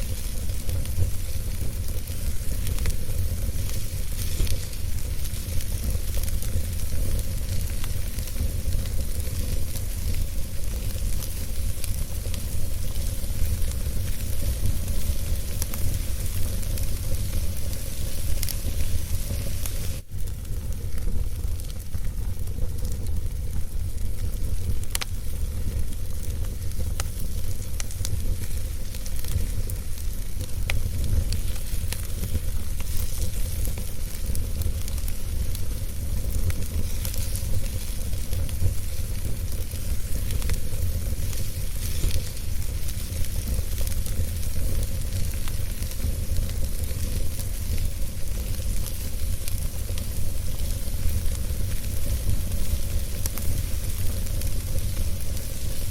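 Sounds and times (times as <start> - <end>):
fire crackling: 0.0 - 55.9
fire rumbling and hissing: 0.0 - 55.9.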